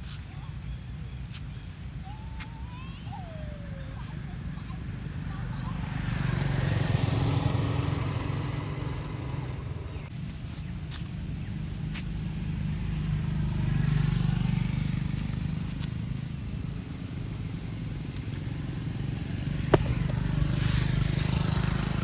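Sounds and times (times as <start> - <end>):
low engine hum: 1.1 - 22.0.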